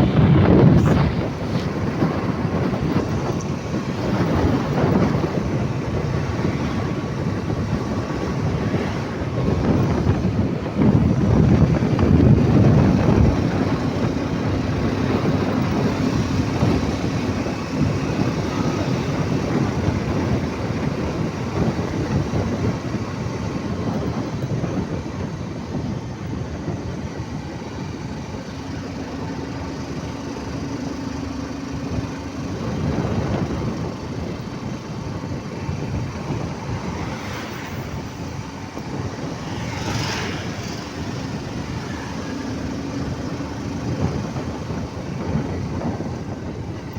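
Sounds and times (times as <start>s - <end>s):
road traffic rumble: 0.0s - 46.9s
vehicles passing: 0.0s - 46.9s.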